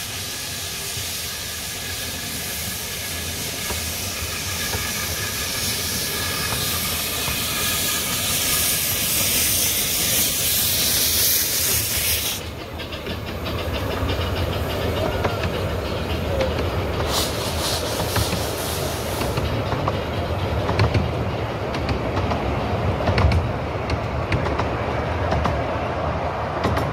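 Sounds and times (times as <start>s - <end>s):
steam hissing: 0.0s - 21.7s
train coaches rumbling: 0.0s - 26.9s
wheels clicking over rail joints: 1.8s - 25.8s.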